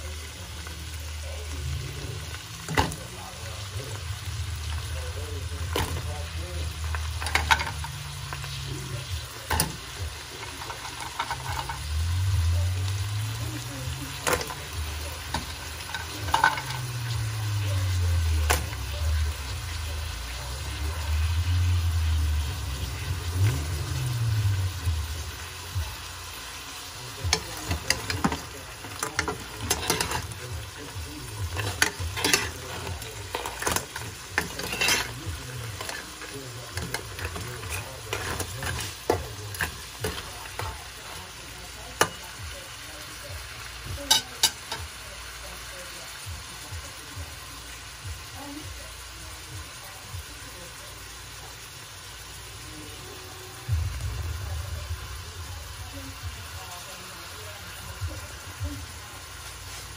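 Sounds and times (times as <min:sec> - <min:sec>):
crabs sizzling in butter: 0:00.0 - 0:59.9.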